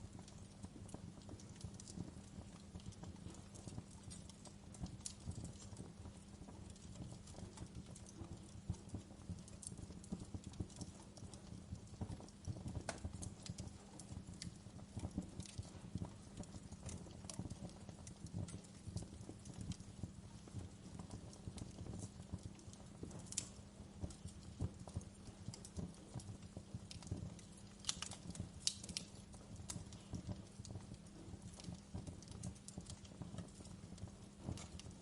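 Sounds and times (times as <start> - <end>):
low rumble of flame: 0.0 - 35.0
wood fire crackling: 0.0 - 35.0.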